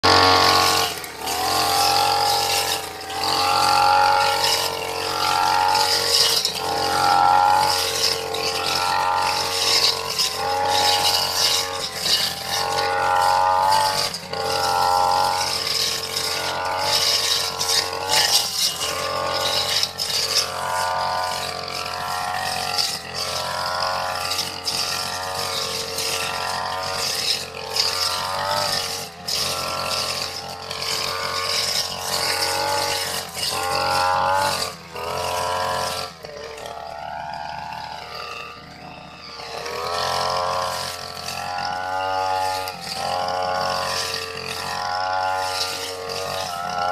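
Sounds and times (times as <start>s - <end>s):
brush cutter engine revving: 0.0s - 46.9s.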